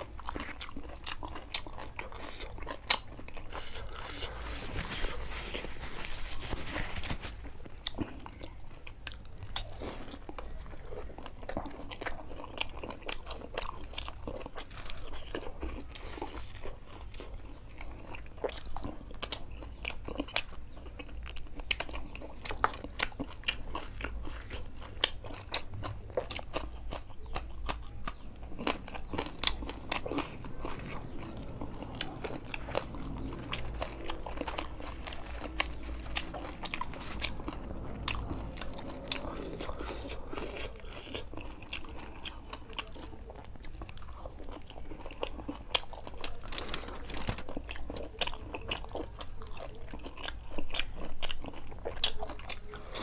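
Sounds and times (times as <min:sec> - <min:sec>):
man chewing food: 0:00.0 - 0:53.0.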